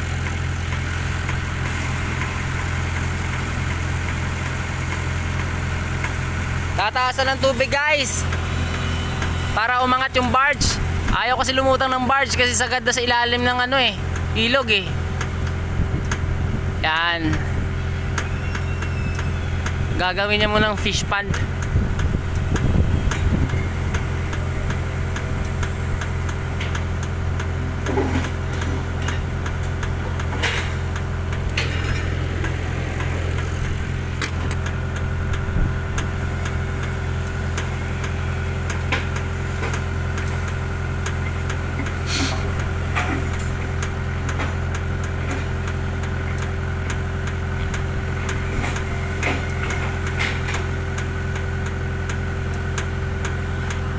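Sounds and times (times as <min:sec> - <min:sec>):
engine running steadily: 0:00.0 - 0:53.9.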